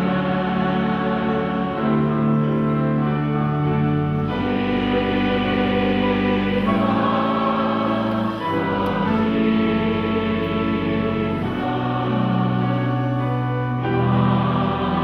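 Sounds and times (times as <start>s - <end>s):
choir accompaniment: 0.0s - 15.0s
church choir singing: 0.0s - 15.0s.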